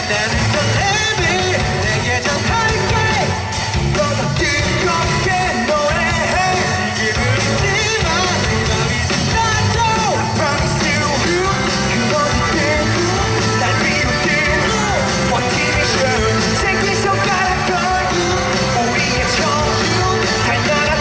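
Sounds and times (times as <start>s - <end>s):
live rock band: 0.0s - 21.0s
person singing: 0.0s - 21.0s.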